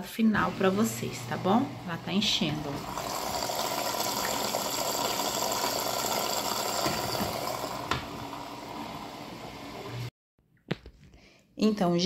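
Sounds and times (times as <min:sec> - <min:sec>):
water rushing into washer: 0:00.3 - 0:10.1.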